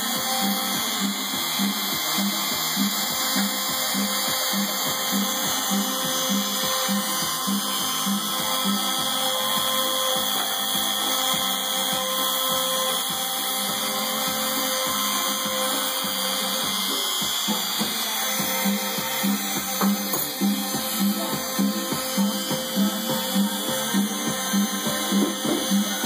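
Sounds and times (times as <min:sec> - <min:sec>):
background music: 0:00.0 - 0:26.0
router spindle whine: 0:00.0 - 0:26.0.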